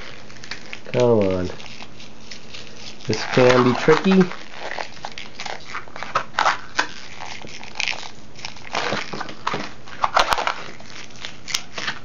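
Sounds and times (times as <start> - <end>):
balloon squeaking and rubbing: 0.0 - 12.0.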